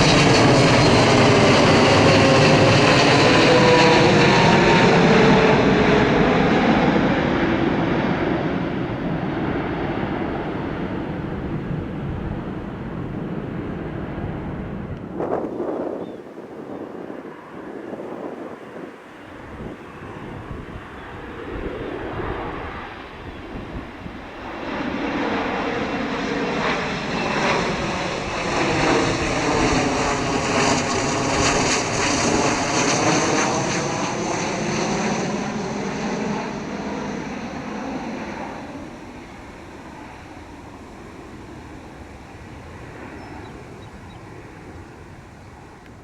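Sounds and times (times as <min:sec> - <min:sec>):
jet airliner passing overhead: 0:00.0 - 0:46.0.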